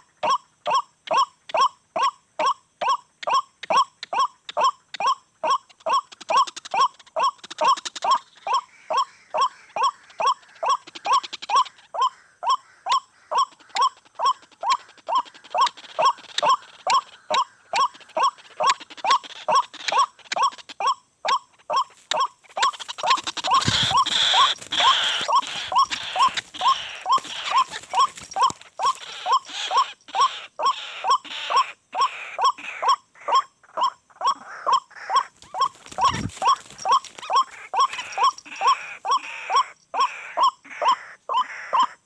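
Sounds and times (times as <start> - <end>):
waterhen croaking calls: 4.6 - 33.4, 34.2 - 42.0.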